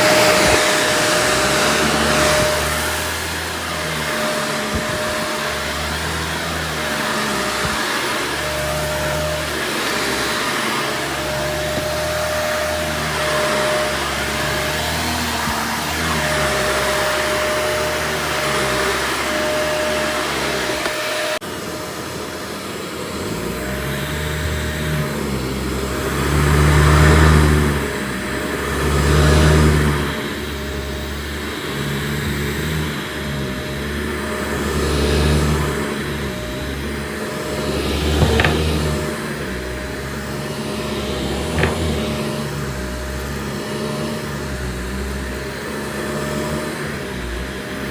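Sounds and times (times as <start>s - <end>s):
vacuum cleaner whine: 0.0s - 47.9s.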